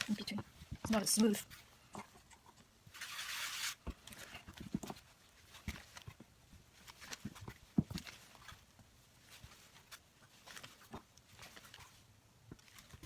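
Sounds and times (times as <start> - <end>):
dough kneading thumps: 0.0 - 2.8, 3.8 - 13.0.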